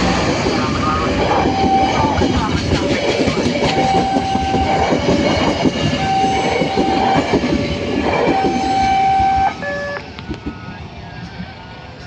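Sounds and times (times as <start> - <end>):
crossing warning siren: 0.0 - 10.4
train wheels clacking on rails: 0.0 - 11.6.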